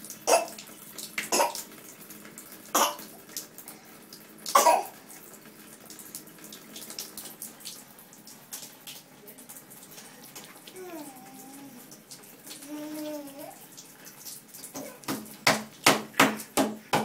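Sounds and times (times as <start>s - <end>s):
faint water splashing: 0.0s - 17.0s.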